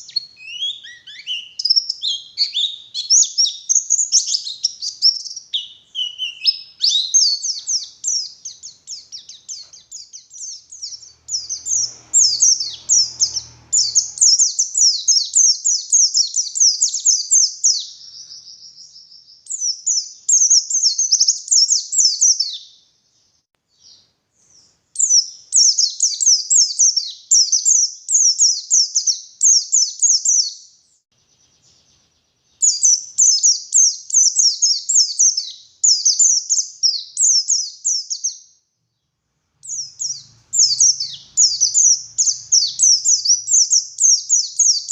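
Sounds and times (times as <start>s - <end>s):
bird high chattering song: 0.0s - 22.9s, 23.7s - 38.6s, 39.6s - 44.9s.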